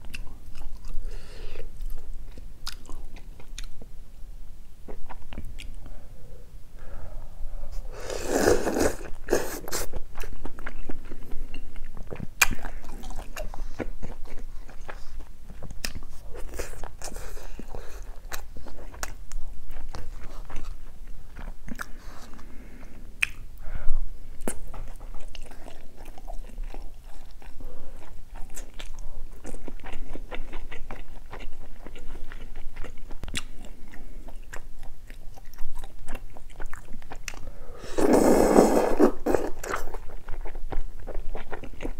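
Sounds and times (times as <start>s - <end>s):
person chewing food: 0.0s - 3.9s, 8.0s - 23.5s, 24.3s - 41.9s.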